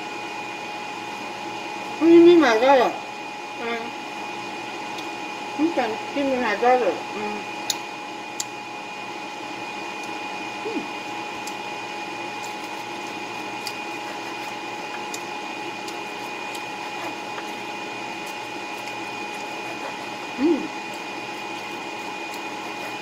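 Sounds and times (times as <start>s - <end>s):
machine hum with whine: 0.0s - 23.0s.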